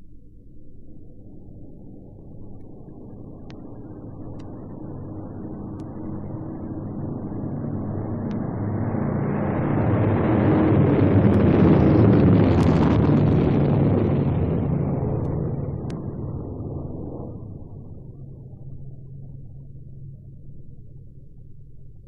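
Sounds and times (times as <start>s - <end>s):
propeller plane engines droning: 0.0s - 18.8s.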